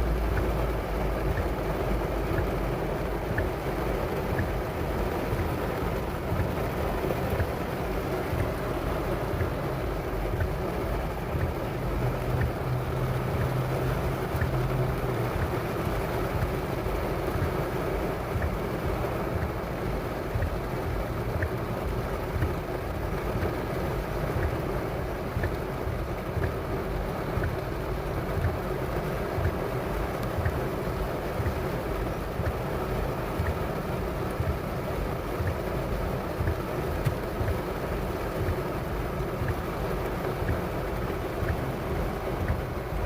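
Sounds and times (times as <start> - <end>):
faint ticks: 0.0 - 43.0
rain on car body: 0.0 - 43.0.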